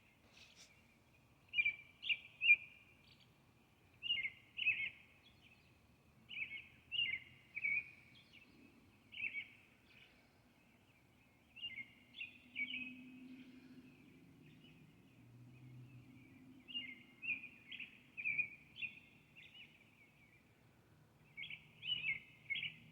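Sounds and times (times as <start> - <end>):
songbird chirping: 0.0 - 22.9.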